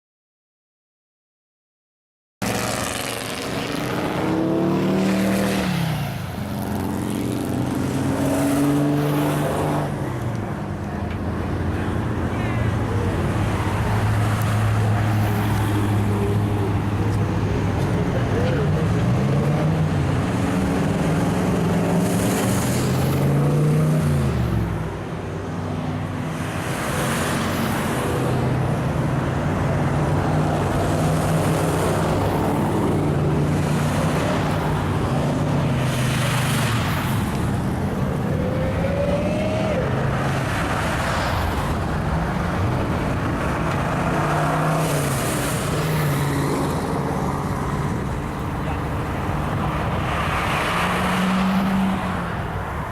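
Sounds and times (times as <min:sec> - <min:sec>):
passing traffic: 0:02.4 - 0:52.9.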